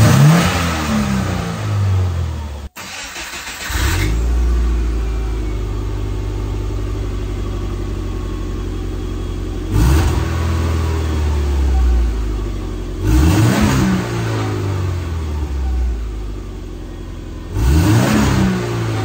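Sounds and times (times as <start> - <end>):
car engine starting and idling: 0.0 - 19.0.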